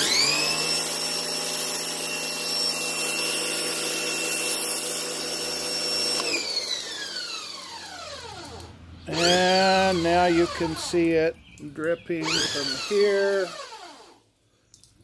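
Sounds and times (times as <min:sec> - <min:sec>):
pressure washer motor running: 0:00.0 - 0:11.3, 0:12.0 - 0:14.2.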